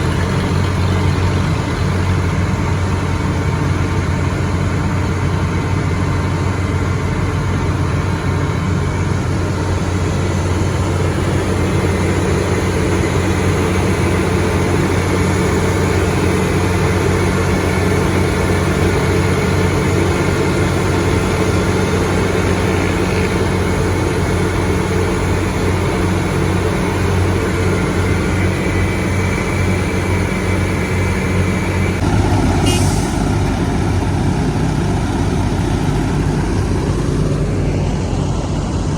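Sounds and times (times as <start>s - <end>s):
heavy machinery engine humming: 0.0s - 38.9s.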